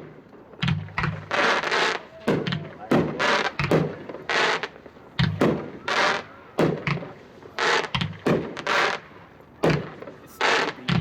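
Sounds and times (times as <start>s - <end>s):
firework reports and bursts: 0.0s - 11.0s.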